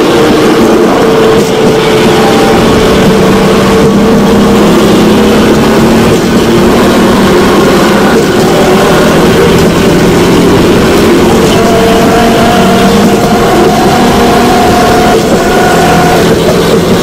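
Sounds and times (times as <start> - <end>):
motorcycle rail cart droning: 0.0 - 17.0.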